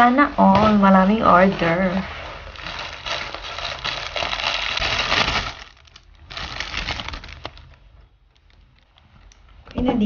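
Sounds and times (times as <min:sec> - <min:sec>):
plastic packaging crinkling: 0:00.6 - 0:09.6.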